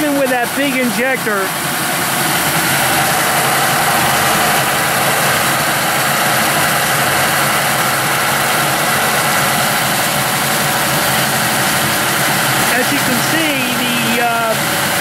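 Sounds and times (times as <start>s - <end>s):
water engine drum spinning: 0.0s - 15.0s
screaming rush of water spray: 1.2s - 15.0s.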